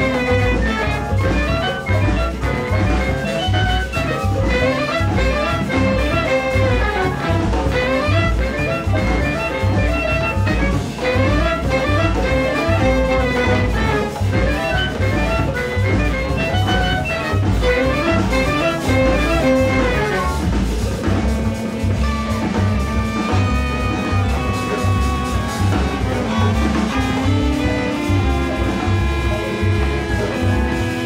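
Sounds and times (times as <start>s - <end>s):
large jazz ensemble playing: 0.0s - 31.0s.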